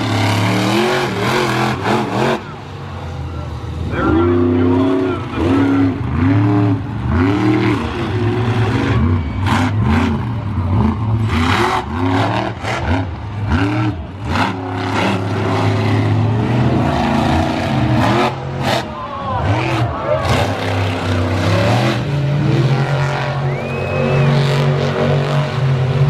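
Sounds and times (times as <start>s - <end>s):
truck engines revving: 0.0s - 26.0s.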